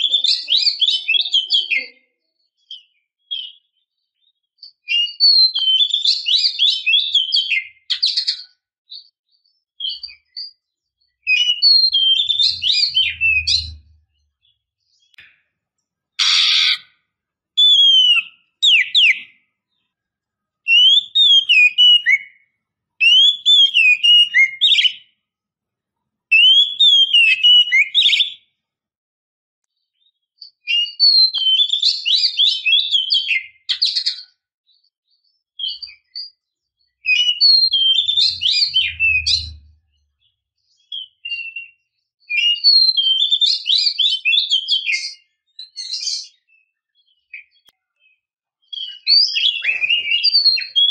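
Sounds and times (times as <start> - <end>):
bird singing whistled notes: 0.0 - 15.2, 16.2 - 16.9, 17.6 - 19.8, 20.7 - 25.2, 26.3 - 28.5, 30.0 - 50.9.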